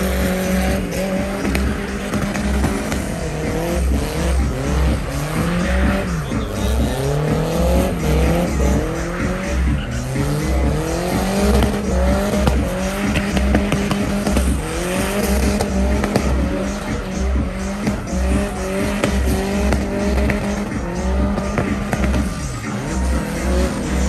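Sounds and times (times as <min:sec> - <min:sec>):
car engine revving: 0:00.0 - 0:24.0
music with steady beat: 0:00.0 - 0:24.0
tires squealing on asphalt: 0:00.0 - 0:24.0.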